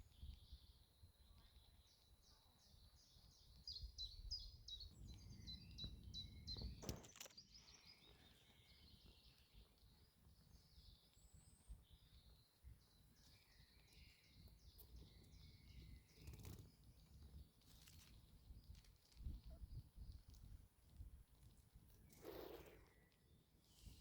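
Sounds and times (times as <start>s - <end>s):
songbird chirping: 0.0s - 20.6s.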